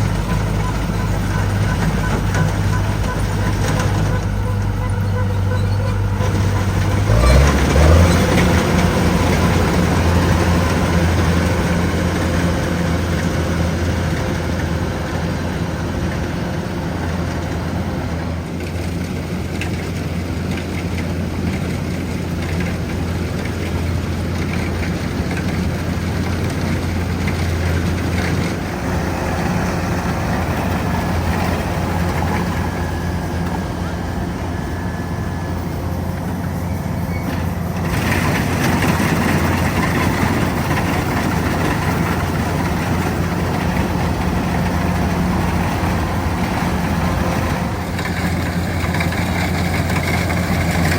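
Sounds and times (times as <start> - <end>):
combine harvester engine: 0.0 - 50.9.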